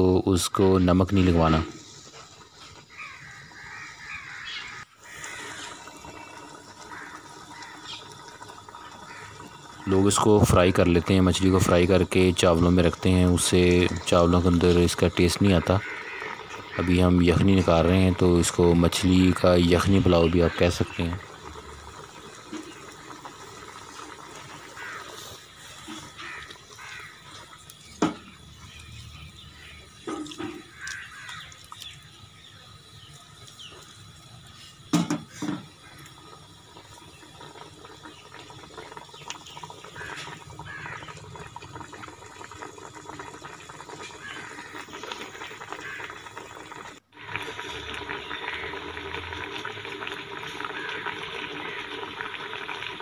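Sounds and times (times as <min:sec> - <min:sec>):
water bubbling in a metal pot: 0:00.0 - 0:53.0.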